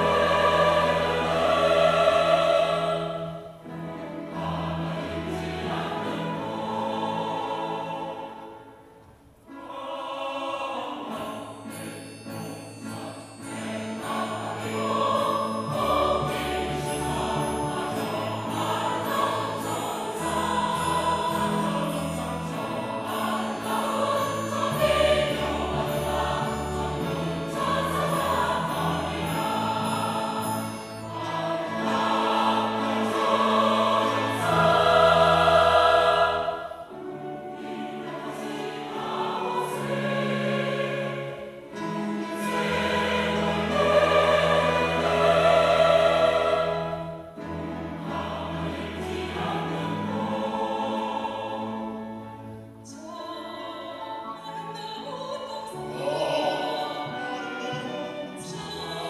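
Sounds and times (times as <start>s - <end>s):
choir singing slow sacred song: 0.0s - 59.0s.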